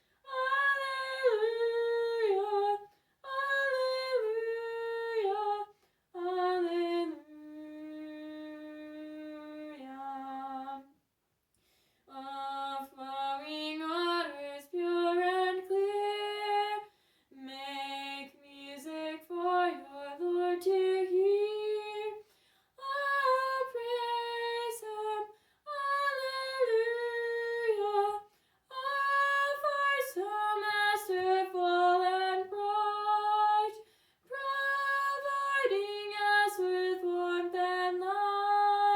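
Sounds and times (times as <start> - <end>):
woman singing unaccompanied: 0.3 - 10.9, 12.1 - 22.2, 22.8 - 38.9.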